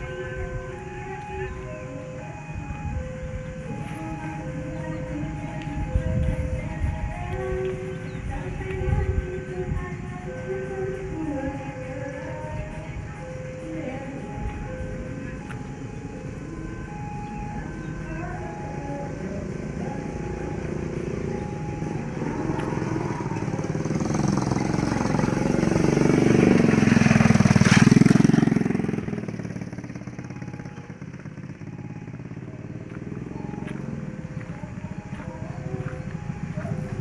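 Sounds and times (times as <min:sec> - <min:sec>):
diesel train passing: 0:00.0 - 0:37.0.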